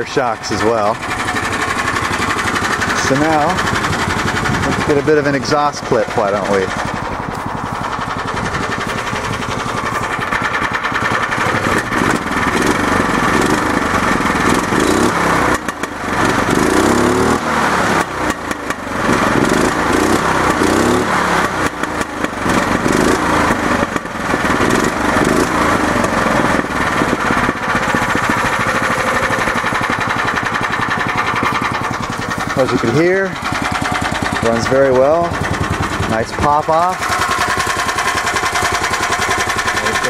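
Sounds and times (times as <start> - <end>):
small engine revving and popping: 1.9 - 40.0.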